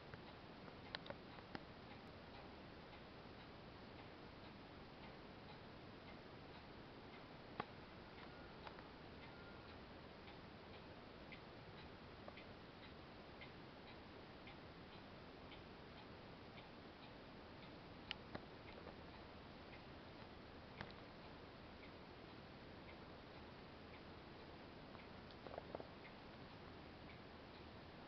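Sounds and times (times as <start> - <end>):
low hiss: 0.0 - 28.0.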